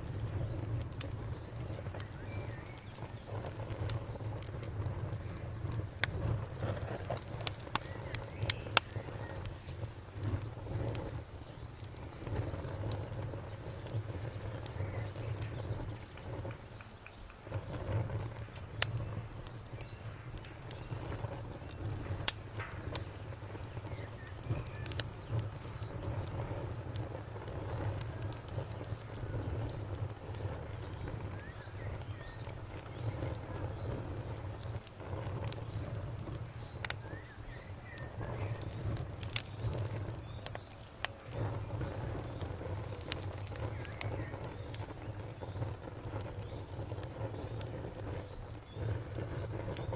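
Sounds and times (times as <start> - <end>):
cricket chirping: 0.0 - 49.9
wood fire crackling: 0.0 - 49.9.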